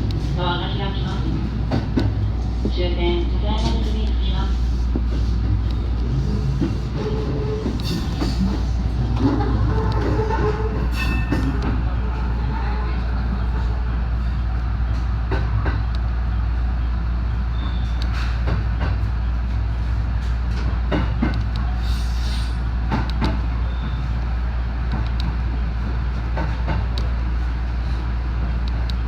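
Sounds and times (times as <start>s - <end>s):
train running low rumble: 0.0s - 29.0s.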